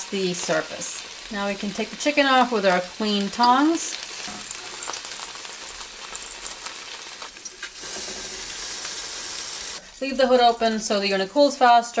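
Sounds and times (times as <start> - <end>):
chicken sizzling on a grill: 0.0 - 10.9.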